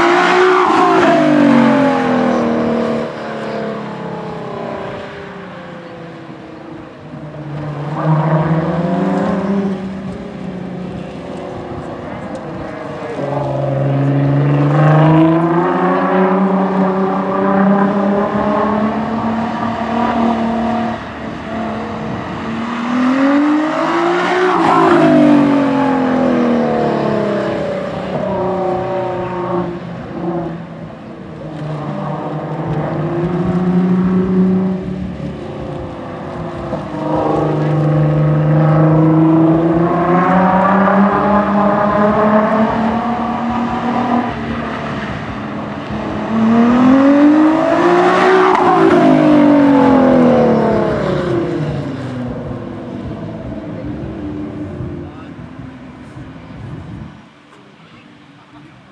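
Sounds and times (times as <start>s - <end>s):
car engine accelerating hard: 0.0s - 57.4s.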